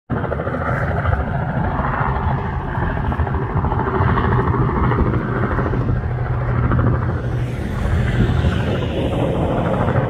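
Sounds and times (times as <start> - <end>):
helicopter engine drone: 0.1 - 10.0
helicopter rotor beating: 0.1 - 10.0.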